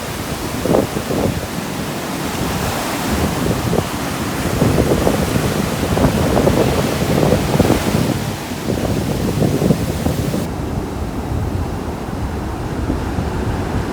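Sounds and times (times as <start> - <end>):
surf breaking on beach: 0.0 - 13.9
wind buffeting microphone: 0.0 - 13.9.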